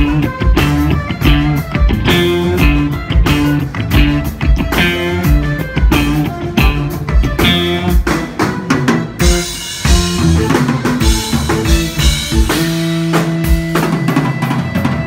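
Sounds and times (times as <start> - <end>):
drum kit: 0.0 - 15.0
rock band playing: 0.0 - 15.0.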